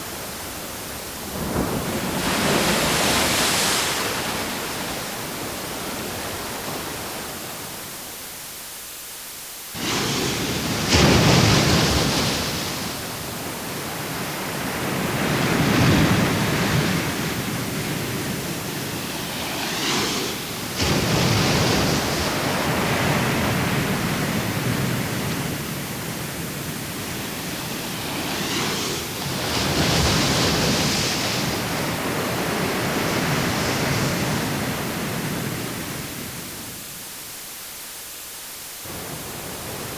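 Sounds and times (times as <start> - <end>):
sea waves breaking on shore: 0.0 - 8.0, 9.8 - 36.8.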